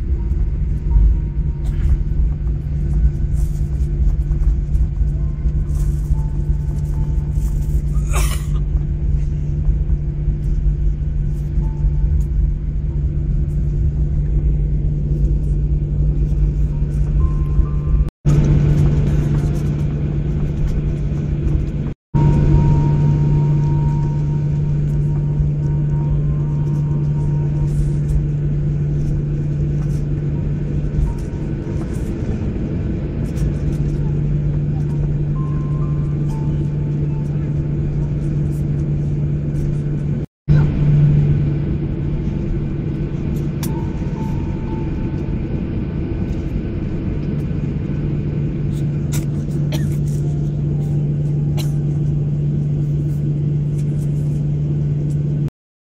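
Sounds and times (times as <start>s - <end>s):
jet engines rumbling: 0.0s - 55.5s
low hum: 0.0s - 55.5s.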